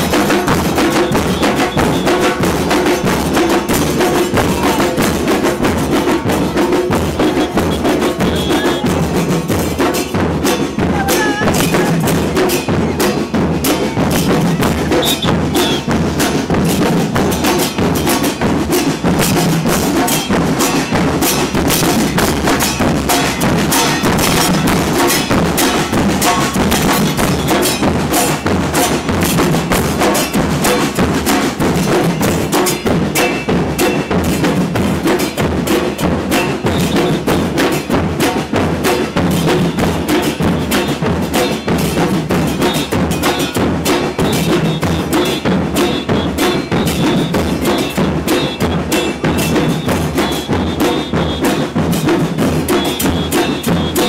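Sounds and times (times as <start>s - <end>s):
drums playing fast beat: 0.0s - 54.0s.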